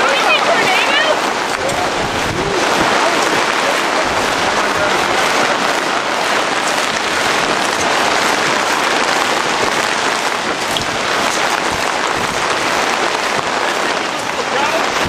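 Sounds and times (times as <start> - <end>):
heavy rain on fabric tent: 0.0 - 15.0.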